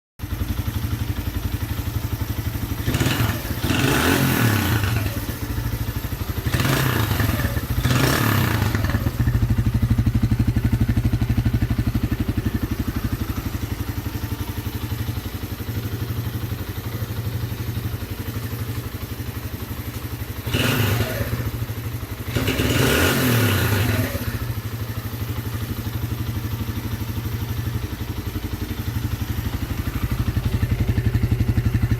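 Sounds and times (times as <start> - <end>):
motorcycle engine idling and revving: 0.2 - 31.9.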